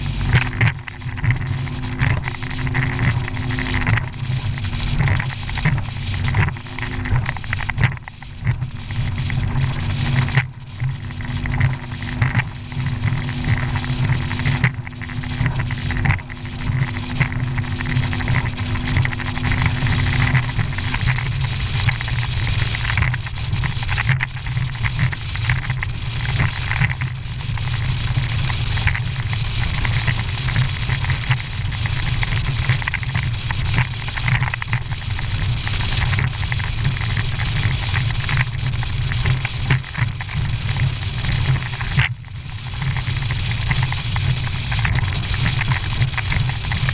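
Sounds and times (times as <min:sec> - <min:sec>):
hull slapping over waves: 0:00.0 - 0:46.9
outboard motor drone: 0:00.0 - 0:46.9
wind buffeting microphone: 0:00.0 - 0:46.9.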